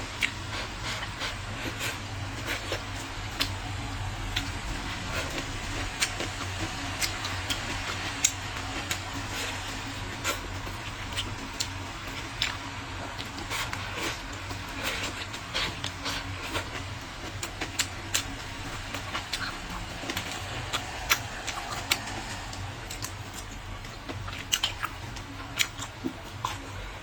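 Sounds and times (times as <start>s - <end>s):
steady low hum: 0.0s - 27.0s
person chewing: 0.2s - 26.9s.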